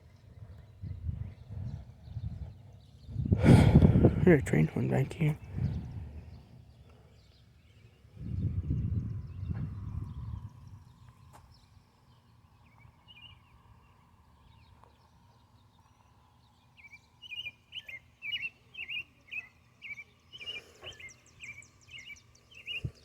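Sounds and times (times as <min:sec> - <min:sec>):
songbird chirping: 0:04.2 - 0:23.0.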